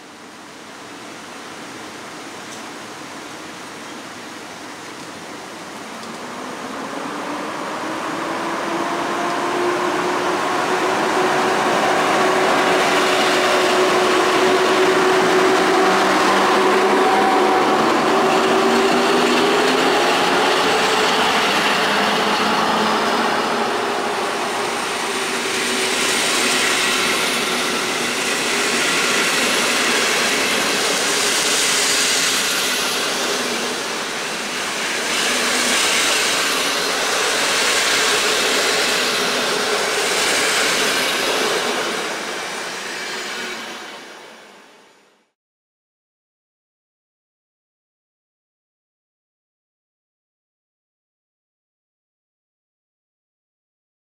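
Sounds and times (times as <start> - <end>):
electric locomotive hum rising: 0.0 - 45.0
train wheels on rails: 0.0 - 45.0.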